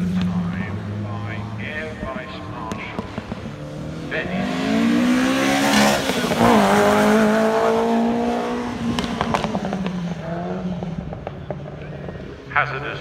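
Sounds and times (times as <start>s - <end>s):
sports car engine at full throttle: 0.0s - 13.0s.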